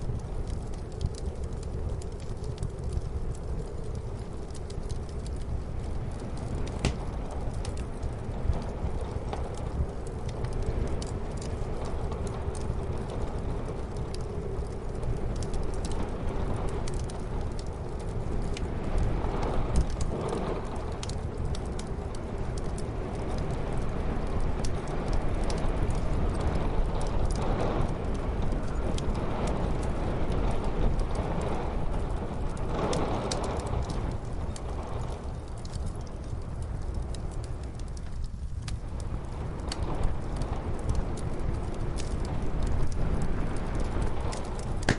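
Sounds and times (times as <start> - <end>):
muffled snowstorm wind: 0.0 - 44.9
wood fire crackling: 0.0 - 44.9.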